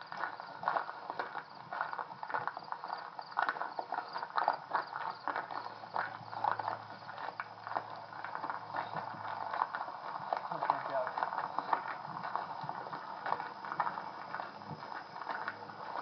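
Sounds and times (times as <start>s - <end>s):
footsteps crunching on rough ground: 0.0s - 16.0s.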